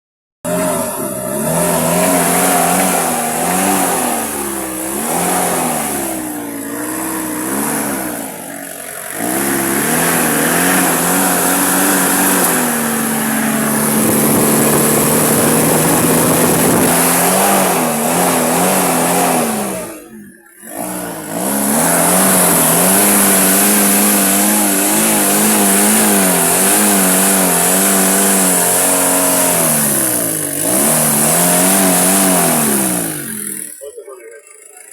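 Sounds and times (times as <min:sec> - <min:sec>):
diesel engine revving: 0:00.4 - 0:34.9.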